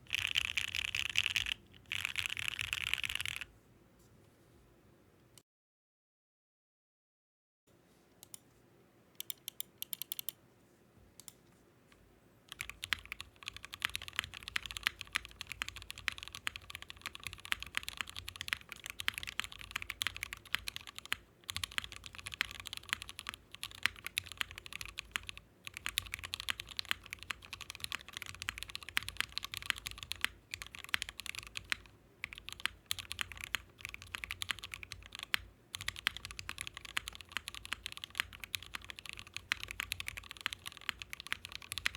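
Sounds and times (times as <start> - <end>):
mechanical keyboard typing: 0.0 - 3.5, 9.2 - 10.4, 12.5 - 41.9.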